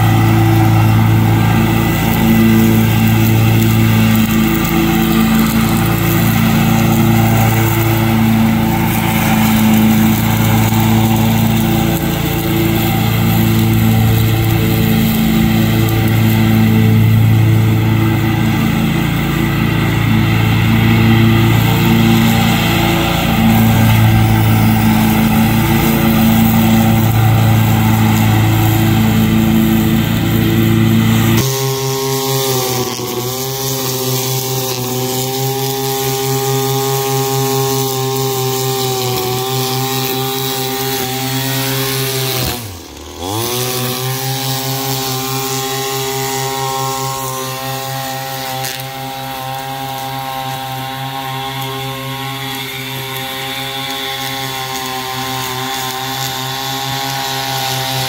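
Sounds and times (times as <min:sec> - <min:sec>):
mower engine running: 0:00.0 - 0:58.0
string trimmer whining: 0:00.0 - 0:58.0.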